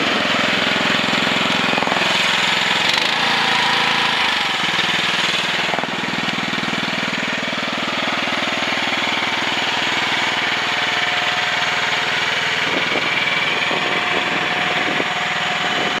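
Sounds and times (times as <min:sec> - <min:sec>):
excavator engine running: 0:00.0 - 0:16.0
steady higher whine: 0:00.0 - 0:16.0.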